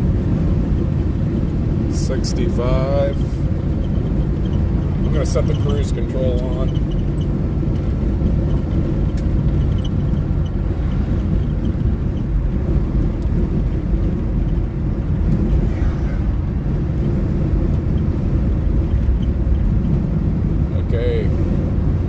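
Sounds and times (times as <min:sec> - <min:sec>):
pickup engine cruising: 0:00.0 - 0:22.0
road noise: 0:00.0 - 0:22.0.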